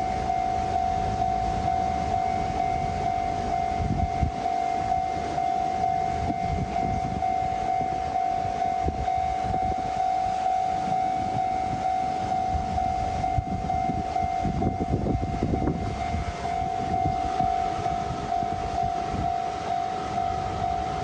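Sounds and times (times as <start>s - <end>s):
level-crossing alarm ringing: 0.0s - 21.0s
train passing: 0.0s - 21.0s.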